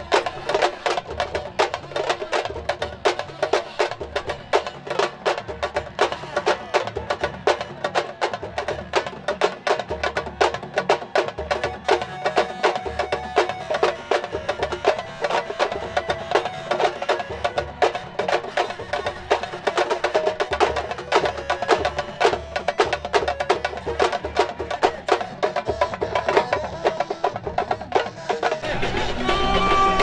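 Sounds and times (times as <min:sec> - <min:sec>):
fast drumming: 0:00.0 - 0:30.0.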